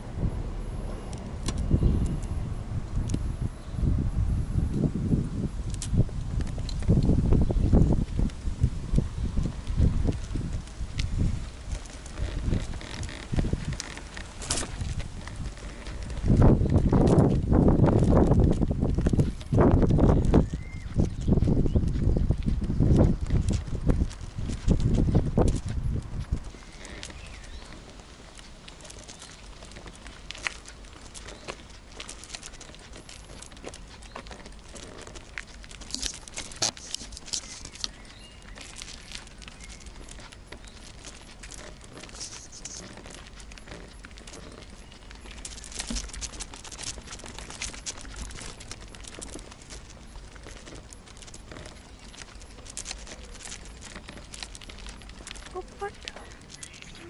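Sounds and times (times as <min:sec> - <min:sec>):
steady low rumble: 0:00.0 - 0:57.0
bike basket rattling: 0:05.7 - 0:57.0.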